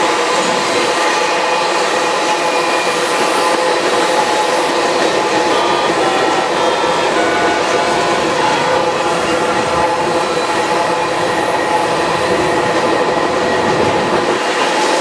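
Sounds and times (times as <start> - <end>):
freight train rolling past: 0.0 - 15.0
wheels whining on rails: 0.0 - 15.0.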